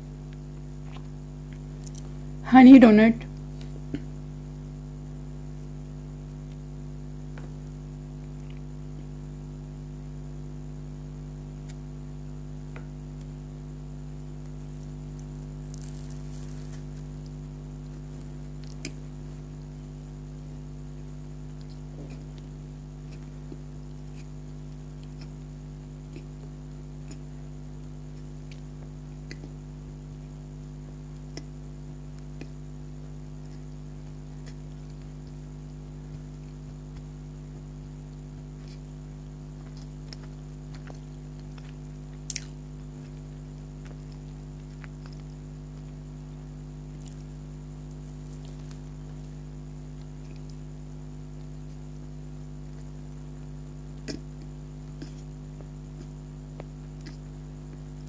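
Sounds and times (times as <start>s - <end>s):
low electrical hum: 0.0s - 58.0s
faint chewing: 0.2s - 2.3s, 6.4s - 9.2s, 14.0s - 30.3s, 31.1s - 32.7s, 33.3s - 46.2s, 46.8s - 58.0s.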